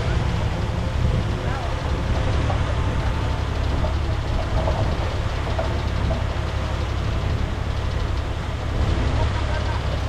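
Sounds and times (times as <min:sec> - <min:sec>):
bulldozer diesel engine running: 0:00.0 - 0:10.0.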